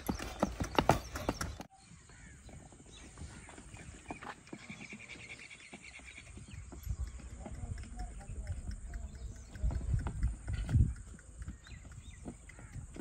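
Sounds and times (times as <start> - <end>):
horse hoofbeats on dirt: 0.0 - 13.0.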